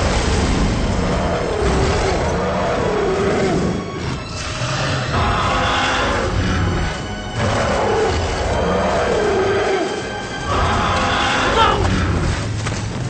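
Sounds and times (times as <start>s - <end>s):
dramatic film score: 0.0s - 13.0s
monster roaring: 0.8s - 12.4s.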